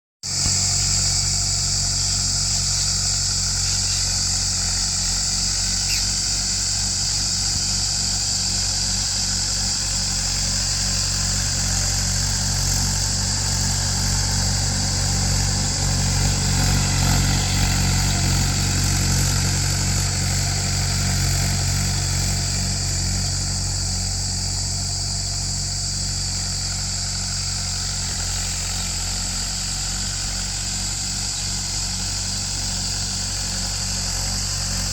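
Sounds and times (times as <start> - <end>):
tractor engine droning: 0.2 - 34.9
steady high hiss: 0.3 - 34.9.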